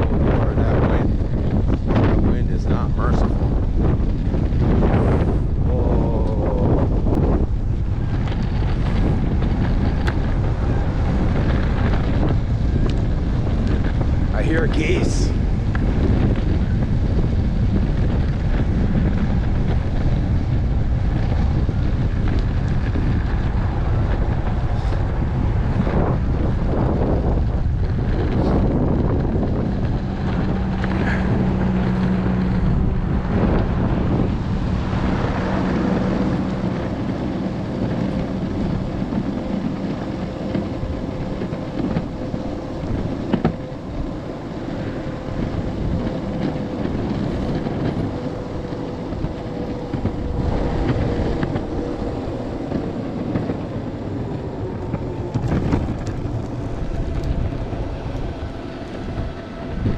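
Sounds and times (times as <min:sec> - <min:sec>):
skateboard wheels rumbling on pavement: 0:00.0 - 0:59.9
wind buffeting microphone: 0:00.0 - 0:59.9
electric motor whine: 0:00.1 - 0:59.9.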